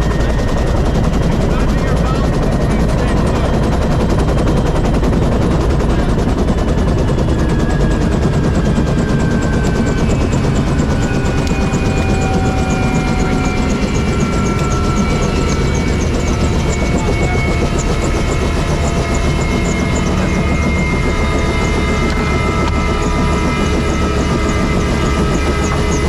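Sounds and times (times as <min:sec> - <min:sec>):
aircraft engine noise: 0:00.0 - 0:26.0.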